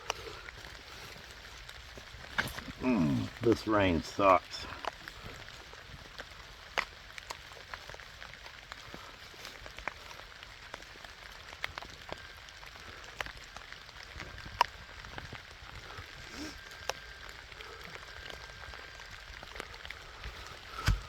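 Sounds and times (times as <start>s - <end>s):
rain drops ticking close by: 0.0s - 21.0s
steady rain falling: 0.0s - 21.0s.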